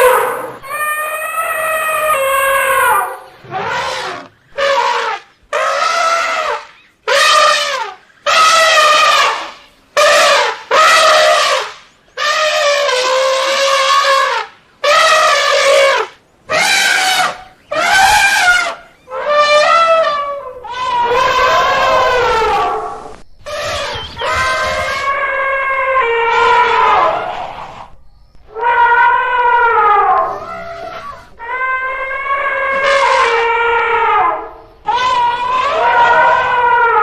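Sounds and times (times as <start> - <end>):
elephants trumpeting: 0.0 - 37.0.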